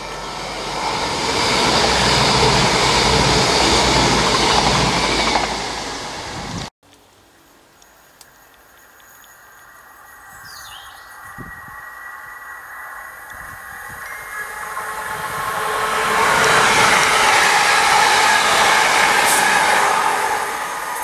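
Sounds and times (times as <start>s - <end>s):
passenger train passing: 0.0s - 6.7s, 10.2s - 21.0s
outdoor background: 0.0s - 21.0s.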